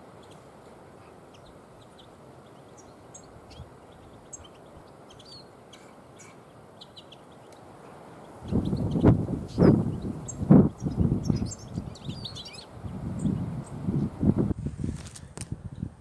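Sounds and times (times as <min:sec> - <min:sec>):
songbirds chirping: 0:00.0 - 0:14.5
faint wind noise: 0:00.0 - 0:16.0.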